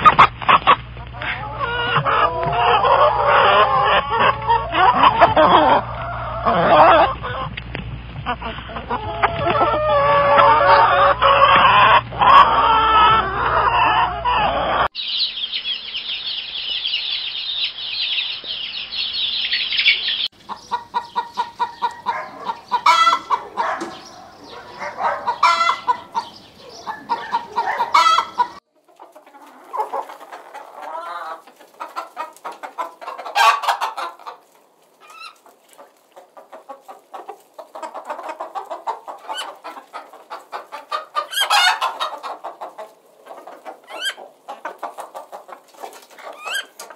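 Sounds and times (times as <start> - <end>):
hens clucking: 0.0 - 15.0, 17.9 - 46.9.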